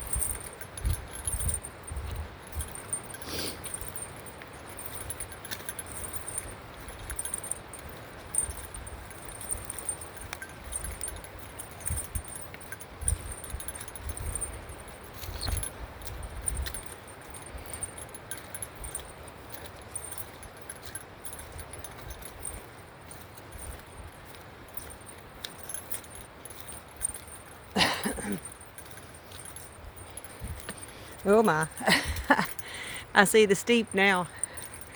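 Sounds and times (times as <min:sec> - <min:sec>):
bell jingling with footsteps: 0:00.0 - 0:34.9.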